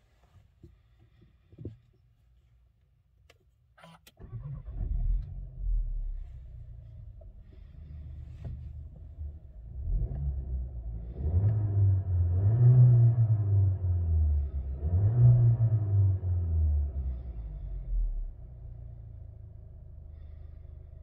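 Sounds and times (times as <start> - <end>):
car engine idling and revving: 3.8 - 21.0.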